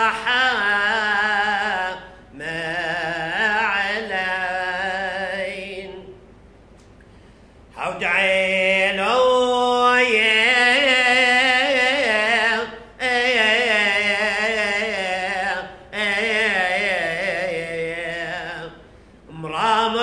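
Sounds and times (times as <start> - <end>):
man singing solo chant: 0.0 - 6.2, 7.8 - 20.0.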